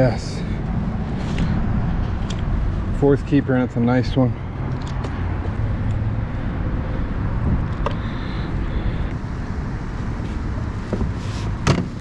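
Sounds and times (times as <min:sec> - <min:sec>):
wind buffeting microphone: 0:00.5 - 0:10.2.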